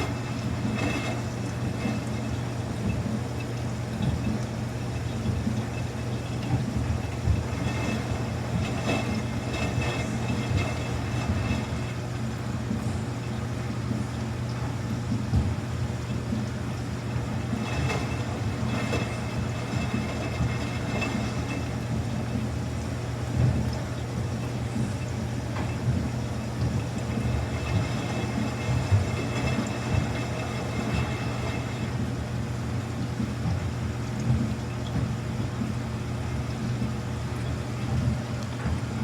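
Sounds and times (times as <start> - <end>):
washing machine hum: 0.0 - 39.0.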